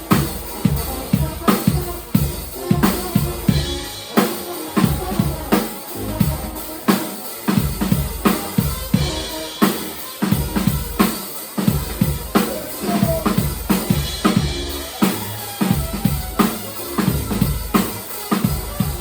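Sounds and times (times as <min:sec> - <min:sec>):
bass drum and snare hits: 0:00.0 - 0:04.0, 0:04.8 - 0:06.8, 0:07.6 - 0:19.0
live band playing: 0:00.0 - 0:19.0.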